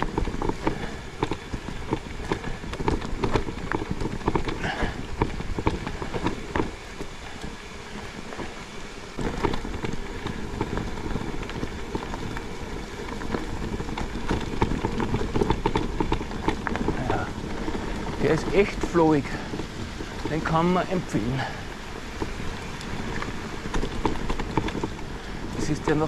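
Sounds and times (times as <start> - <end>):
bike rattling knocks: 0.0 - 26.0
steady rumble: 0.0 - 26.0
tyres crunching over gravel: 0.0 - 26.0.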